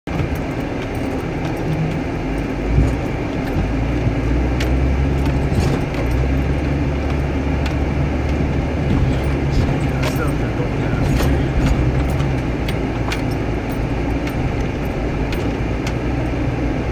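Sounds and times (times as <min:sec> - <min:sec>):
car engine running at low speed: 0:00.0 - 0:16.9
rattling and clicking: 0:00.1 - 0:16.9.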